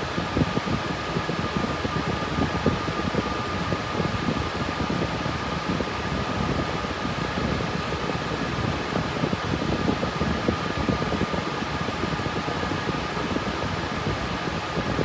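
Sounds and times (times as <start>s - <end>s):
cooling fans whooshing: 0.0s - 15.0s.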